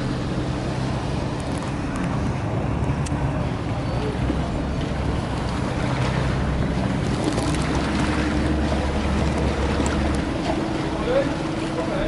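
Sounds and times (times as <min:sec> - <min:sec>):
ferry engine droning: 0:00.0 - 0:12.0
water noise: 0:00.0 - 0:12.0.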